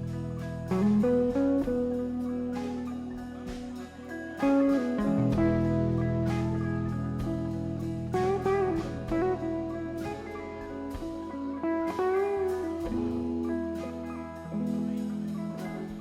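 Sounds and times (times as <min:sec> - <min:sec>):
bass line: 0:00.0 - 0:16.0
electric guitar bending notes: 0:00.0 - 0:16.0.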